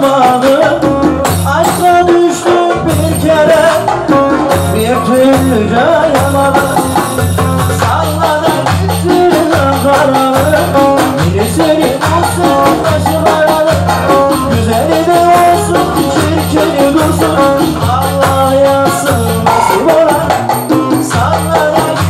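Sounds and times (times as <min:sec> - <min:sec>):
man singing into microphone: 0:00.0 - 0:22.0
rattling percussion: 0:00.0 - 0:22.0
dance music through loudspeakers: 0:01.3 - 0:22.0.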